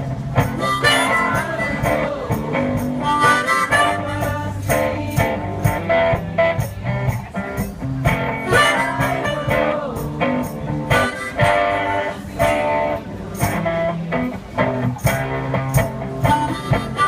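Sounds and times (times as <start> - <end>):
blues guitar: 0.0 - 17.0.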